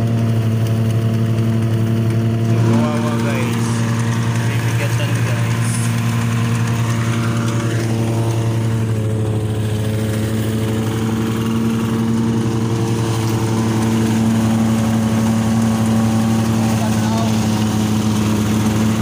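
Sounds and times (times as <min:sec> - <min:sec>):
thresher engine droning: 0:00.0 - 0:19.0.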